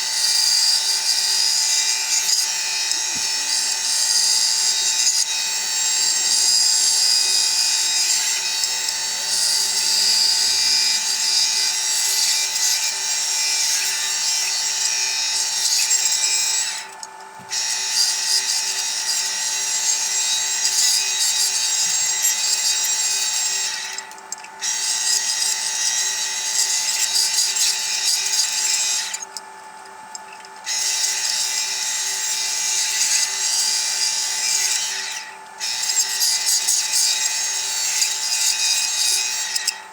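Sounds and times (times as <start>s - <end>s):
bandsaw cutting wood: 0.0s - 29.2s, 30.7s - 39.9s
bandsaw motor hum: 0.0s - 39.9s.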